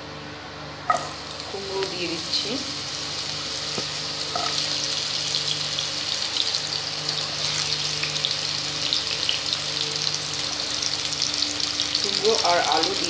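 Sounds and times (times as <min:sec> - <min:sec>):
pumpkin sizzling in hot oil: 0:00.8 - 0:13.0
crackles and pops of frying: 0:00.9 - 0:13.0.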